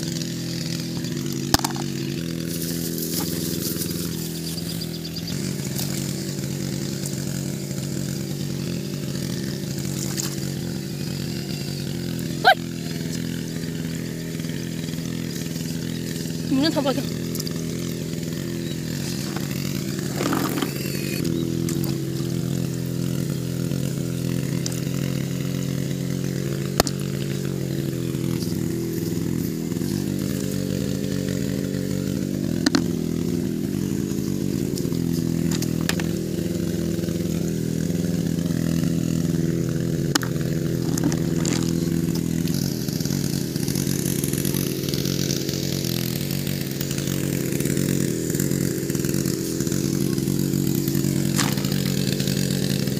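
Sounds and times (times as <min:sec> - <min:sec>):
small engine droning: 0:00.0 - 0:52.9.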